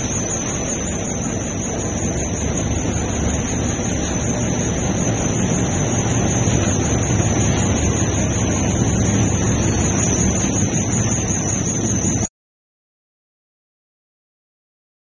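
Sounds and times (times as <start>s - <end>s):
constant high hiss: 0.0s - 12.3s
production line machinery running: 0.0s - 12.3s.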